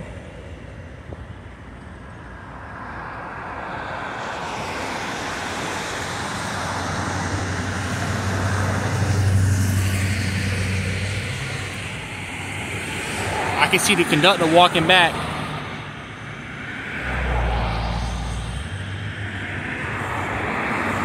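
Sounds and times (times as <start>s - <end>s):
vehicle passing by: 3.6s - 21.0s.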